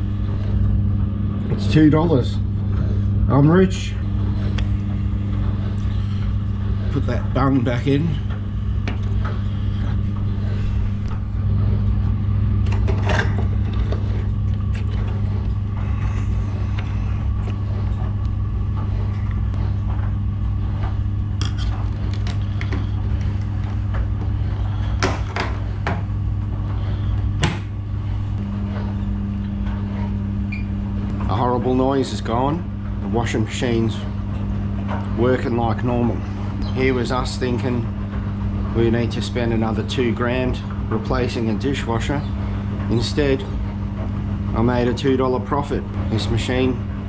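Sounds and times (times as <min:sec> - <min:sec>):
washing machine motor hum: 0:00.0 - 0:47.0.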